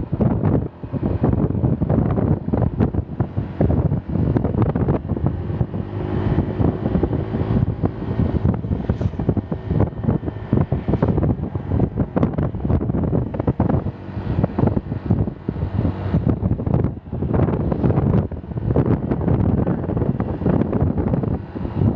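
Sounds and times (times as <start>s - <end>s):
vehicle road and engine noise: 0.0s - 21.9s
wind buffeting microphone: 0.0s - 21.9s.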